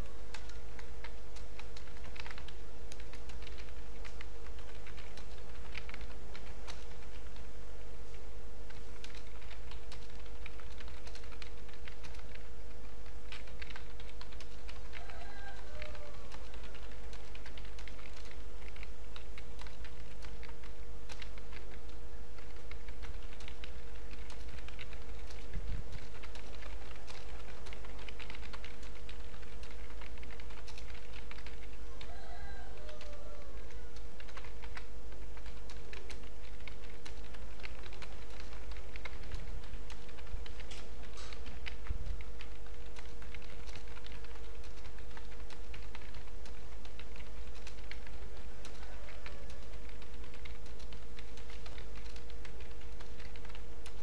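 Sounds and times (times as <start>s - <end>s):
keyboard typing: 0.0s - 7.5s, 8.1s - 54.0s
electrical hum: 0.0s - 54.0s.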